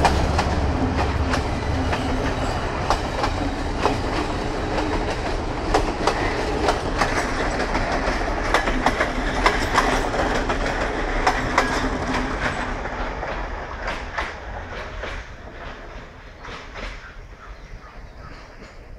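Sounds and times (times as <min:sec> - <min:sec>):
train rumble: 0:00.0 - 0:18.9
train wheels clacking over rail joints: 0:00.0 - 0:18.9.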